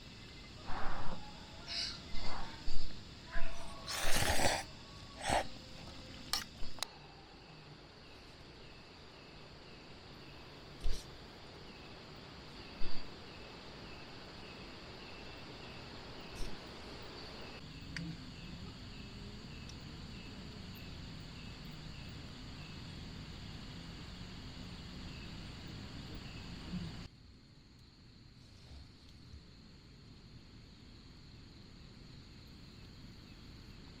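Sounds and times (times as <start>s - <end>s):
crickets chirping: 0.0s - 34.0s
faint high insect drone: 0.0s - 34.0s.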